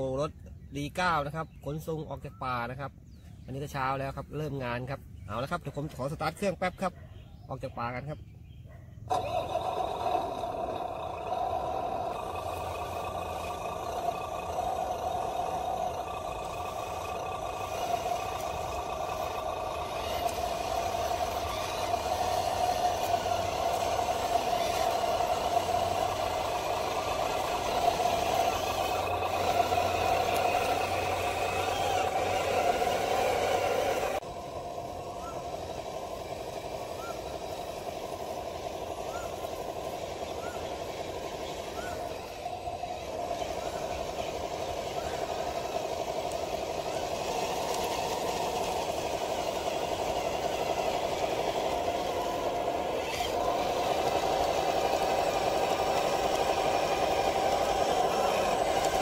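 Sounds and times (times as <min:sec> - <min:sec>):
model tractor drive whine: 0:09.1 - 0:59.0.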